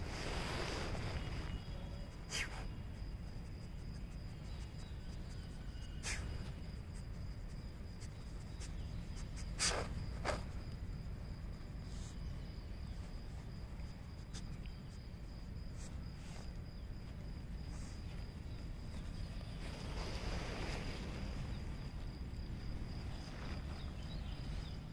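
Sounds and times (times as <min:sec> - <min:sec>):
constant high-pitched tone: 0:00.0 - 0:20.0
steady low rumble: 0:00.0 - 0:24.9.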